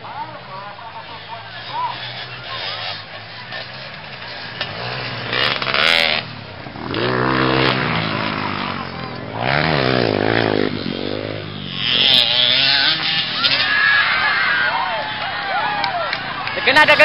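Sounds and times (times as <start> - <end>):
dirt bike engine revving: 0.0 - 15.5
loud rush of noise: 0.0 - 17.0.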